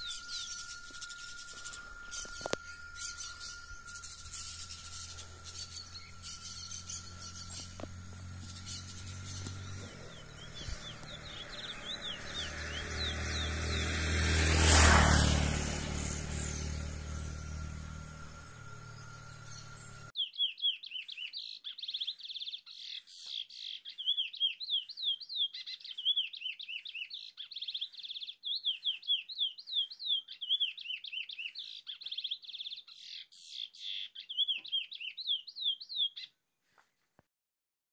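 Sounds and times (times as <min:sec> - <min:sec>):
rough outdoor noise: 0:00.0 - 0:35.9
bird singing whistled notes: 0:00.0 - 0:36.3.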